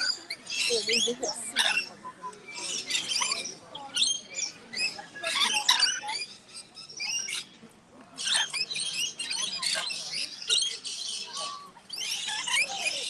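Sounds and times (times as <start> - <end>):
birds chirping and squawking: 0.0 - 13.0.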